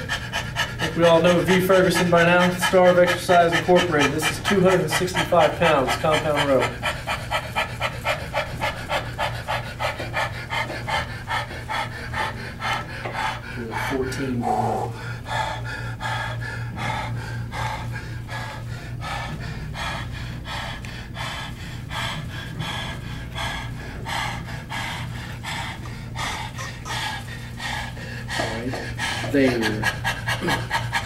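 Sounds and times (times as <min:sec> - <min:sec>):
man breathing hard: 0:00.0 - 0:31.0
steady low hum: 0:00.0 - 0:31.0.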